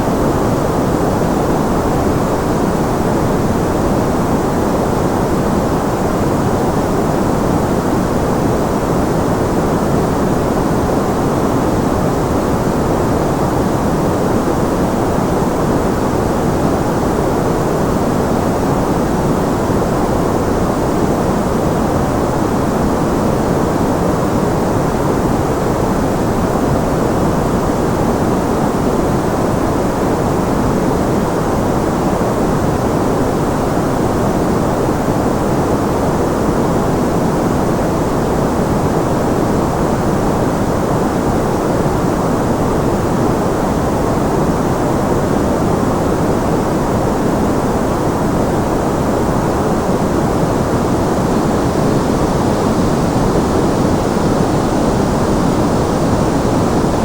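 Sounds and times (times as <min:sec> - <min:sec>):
deep even white noise hiss: 0:00.0 - 0:57.0.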